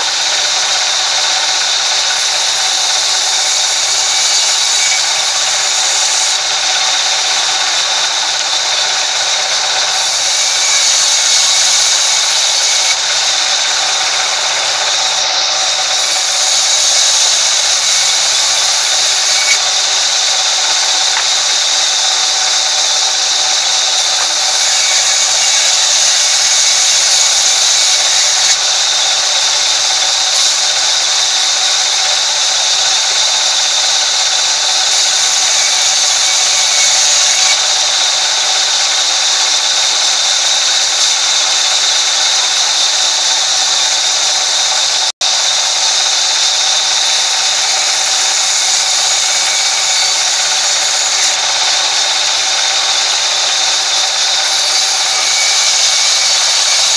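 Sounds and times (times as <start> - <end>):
band saw cutting timber: 0.0 - 56.9.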